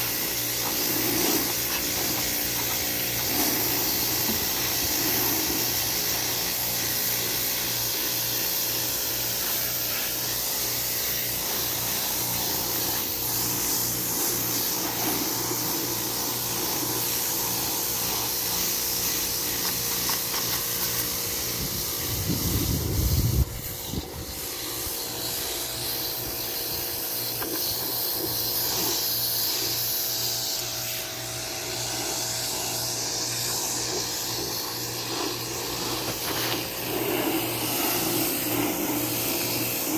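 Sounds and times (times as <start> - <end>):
water jet hissing on hull: 0.0 - 21.1, 22.2 - 39.9
pump hum: 0.0 - 39.9.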